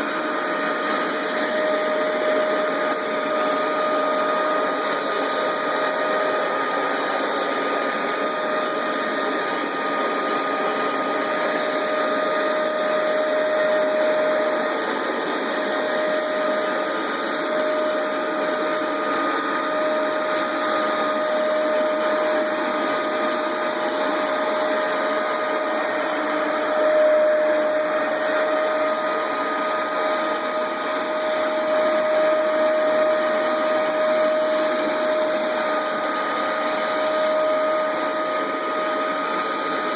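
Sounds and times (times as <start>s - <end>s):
carpet cleaner motor humming: 0.0s - 39.9s.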